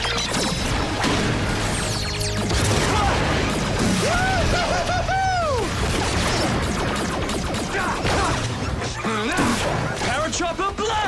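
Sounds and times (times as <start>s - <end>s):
action soundtrack music: 0.0s - 11.0s.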